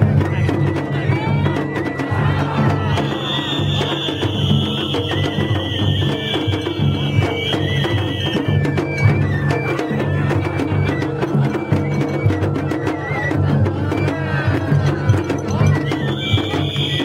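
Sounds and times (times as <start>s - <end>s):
shrill flute melody: 0.0s - 17.0s
taiko drums beating: 0.0s - 17.0s.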